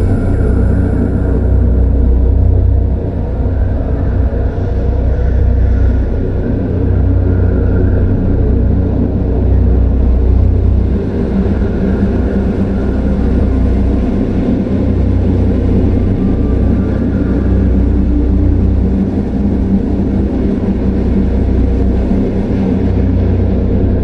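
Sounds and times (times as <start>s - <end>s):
deep rumbling drone: 0.0s - 24.0s.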